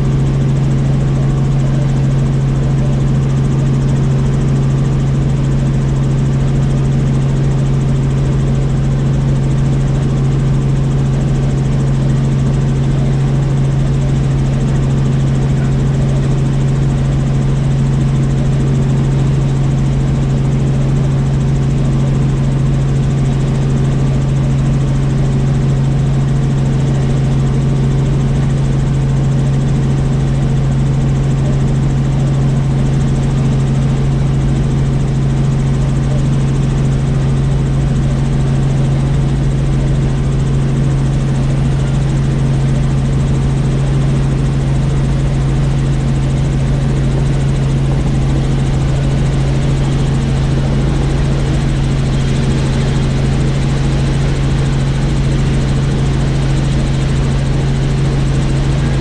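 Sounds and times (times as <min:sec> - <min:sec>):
helicopter drone: 0:00.0 - 0:59.0.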